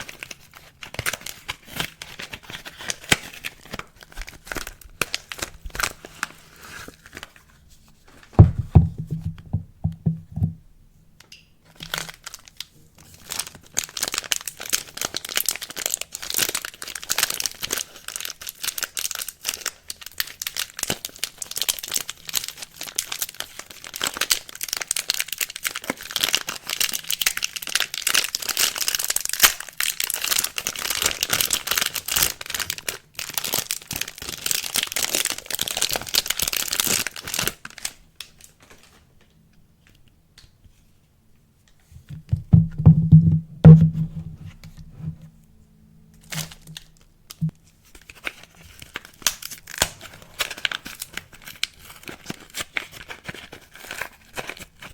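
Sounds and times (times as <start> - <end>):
plastic wrapping crinkling and tearing: 0.0 - 8.4, 11.7 - 39.1, 46.2 - 54.9.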